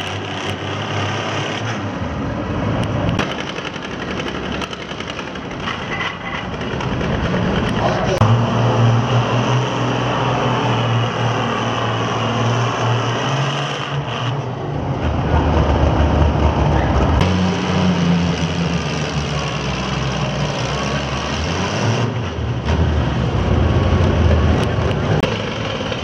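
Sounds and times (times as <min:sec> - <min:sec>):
tractor engine running hard: 0:00.0 - 0:26.0.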